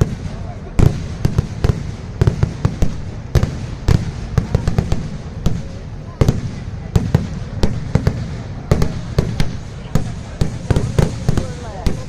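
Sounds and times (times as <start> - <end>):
firework bangs: 0.0 - 12.0
low rumble of explosions: 0.0 - 12.0.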